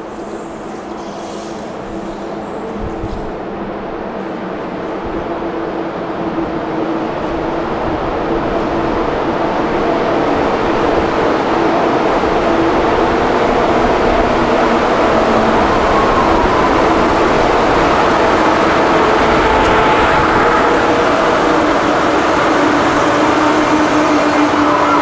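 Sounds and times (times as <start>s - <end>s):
train rumbling into station: 0.0s - 25.0s.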